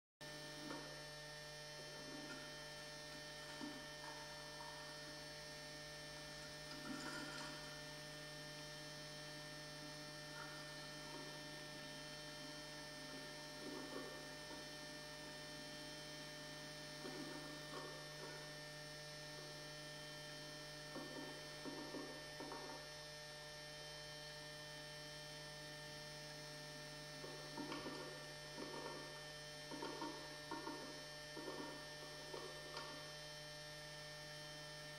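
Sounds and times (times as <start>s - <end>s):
electrical mains hum: 0.2s - 34.9s.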